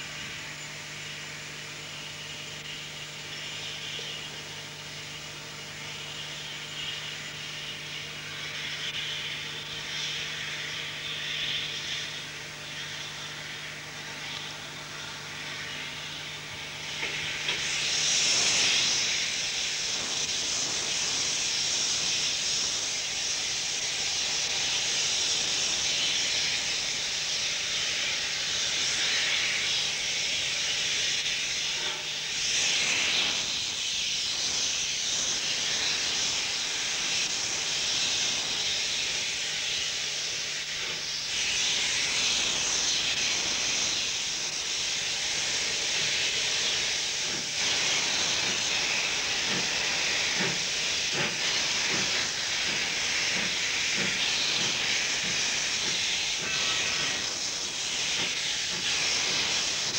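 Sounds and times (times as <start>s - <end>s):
steam hissing from locomotive: 0.0s - 59.9s.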